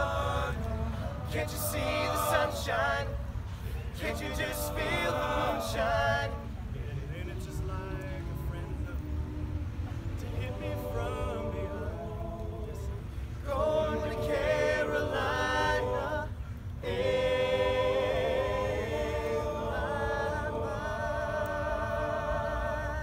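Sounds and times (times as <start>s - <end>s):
men singing a cappella: 0.0s - 23.0s.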